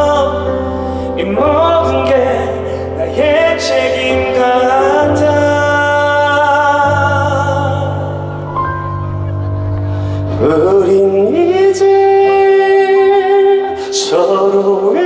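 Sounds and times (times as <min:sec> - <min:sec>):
man singing: 0:00.0 - 0:09.4, 0:10.0 - 0:15.0
steady music accompaniment: 0:00.0 - 0:15.0.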